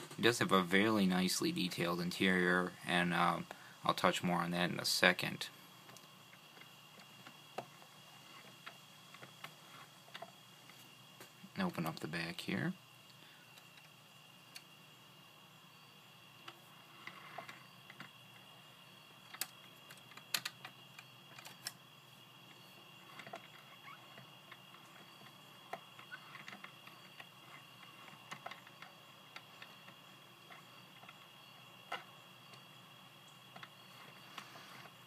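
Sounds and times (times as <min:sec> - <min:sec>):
faint steady high hum: 0:00.0 - 0:35.0.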